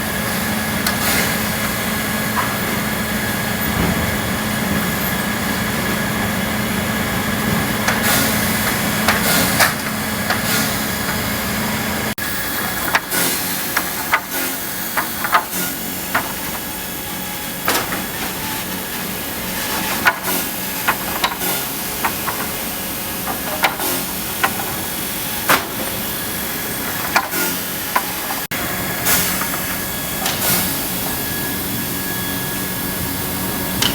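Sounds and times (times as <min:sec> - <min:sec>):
machine humming: 0:00.0 - 0:33.9.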